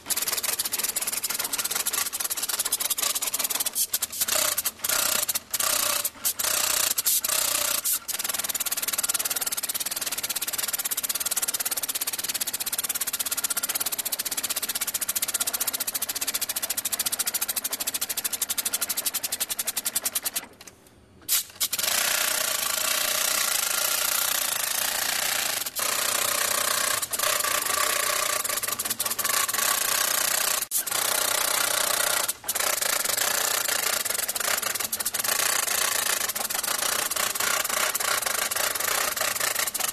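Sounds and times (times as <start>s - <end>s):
tufting gun mechanical rattle: 0.0s - 39.9s.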